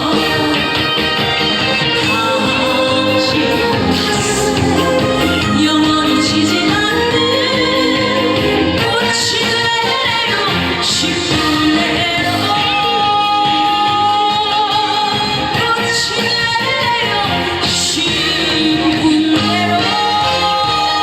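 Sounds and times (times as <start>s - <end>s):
band accompaniment: 0.0s - 21.0s
woman singing with vibrato: 0.0s - 21.0s.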